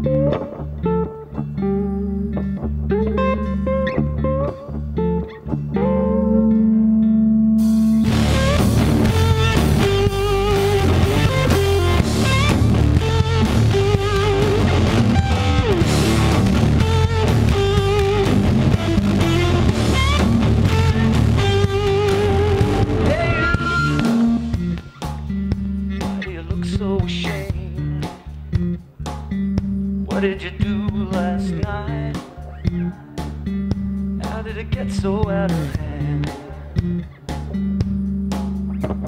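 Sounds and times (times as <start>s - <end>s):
guitar-led rock music: 0.0s - 39.0s.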